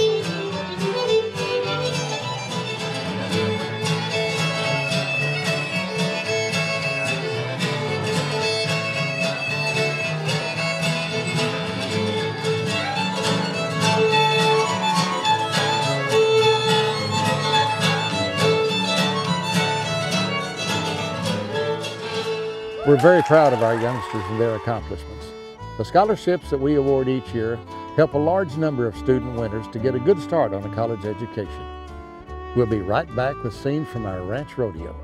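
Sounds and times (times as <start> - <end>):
lively fiddle tune: 0.0 - 35.0
strummed guitar: 0.0 - 35.0.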